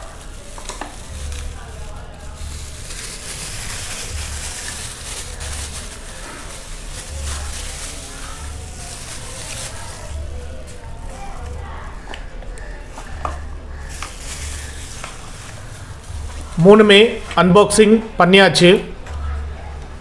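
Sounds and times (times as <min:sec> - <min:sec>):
packaging rustling and crackling: 0:00.0 - 0:17.4.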